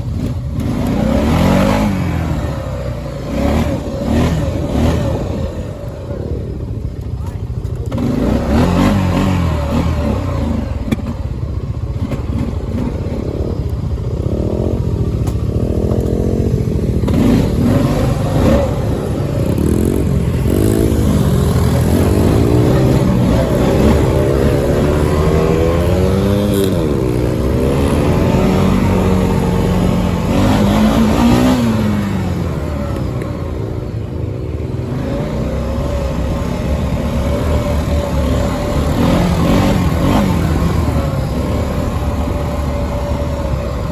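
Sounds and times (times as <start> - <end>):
dirt bike engine revving: 0.0 - 6.7, 7.8 - 43.9.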